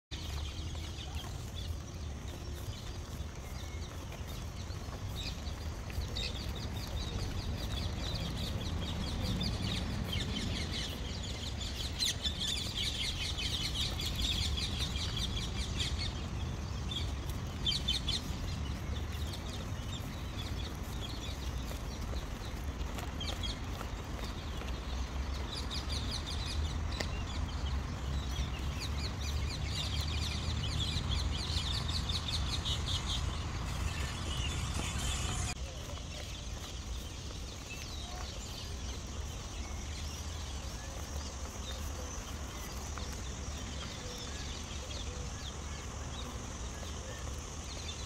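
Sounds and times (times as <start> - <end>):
birds chirping and chattering: 0.1 - 48.0.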